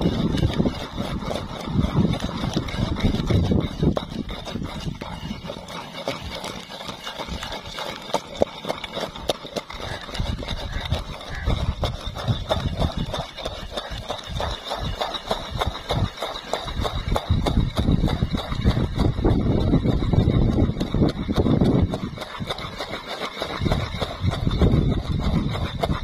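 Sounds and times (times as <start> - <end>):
wood knocking and scraping on clay: 0.0 - 26.0
wooden pestle grinding in clay mortar: 0.0 - 26.0.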